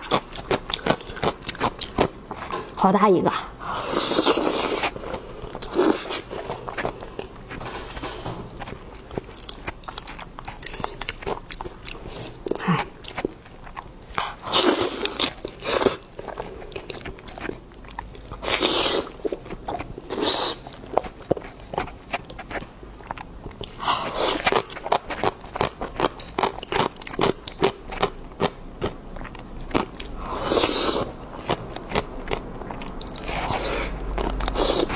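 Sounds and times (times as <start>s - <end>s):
close chewing and mouth sounds: 0.0s - 34.9s.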